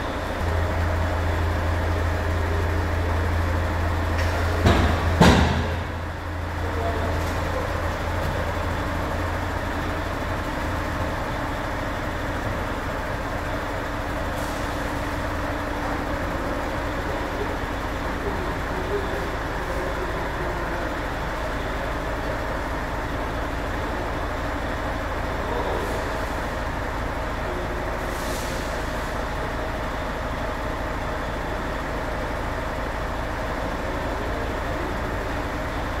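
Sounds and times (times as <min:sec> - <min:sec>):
low machinery hum: 0:00.0 - 0:36.0.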